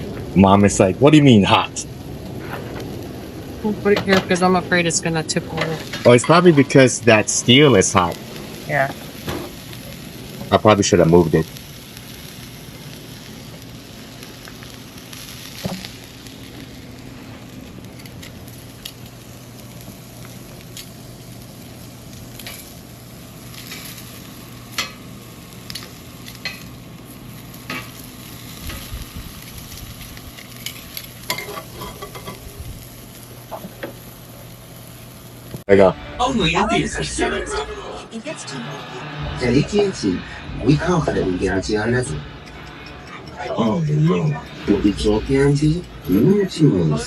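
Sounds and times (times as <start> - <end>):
grill sizzling: 0.0 - 47.0.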